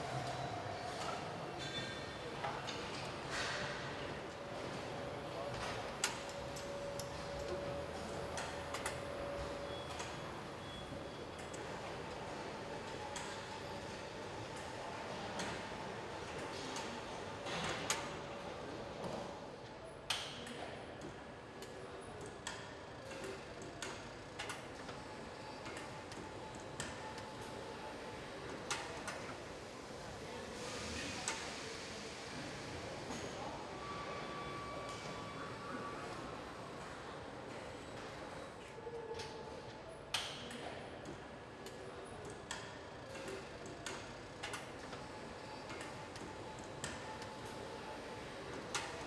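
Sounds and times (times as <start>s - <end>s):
factory background hum: 0.0s - 49.0s.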